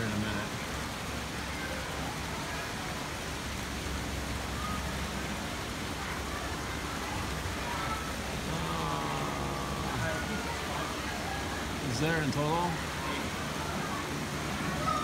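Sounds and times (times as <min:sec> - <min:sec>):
faint distant voices: 0:00.0 - 0:15.0
outdoor background noise: 0:00.0 - 0:15.0.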